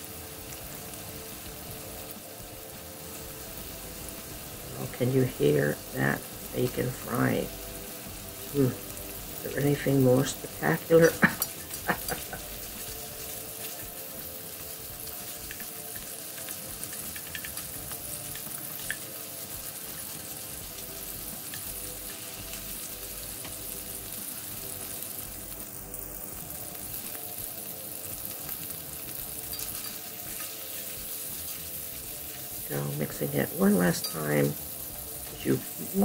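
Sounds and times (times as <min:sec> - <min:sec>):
bacon sizzling in a pan: 0:00.0 - 0:36.0.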